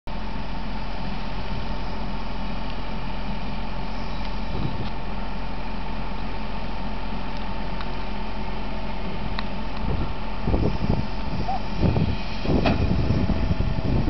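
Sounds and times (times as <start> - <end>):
heavy diesel machinery running: 0.1 - 14.0
thin steady whine: 0.1 - 14.0.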